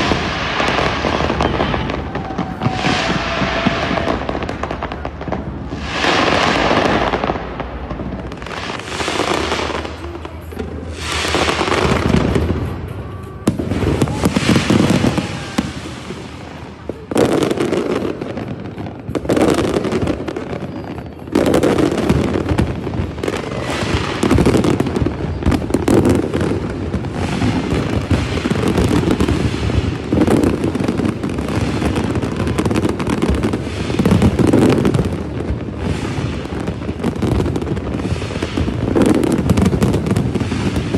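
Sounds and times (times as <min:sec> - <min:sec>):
firework shells booming: 0:00.0 - 0:40.9
fireworks crackling: 0:00.0 - 0:40.9.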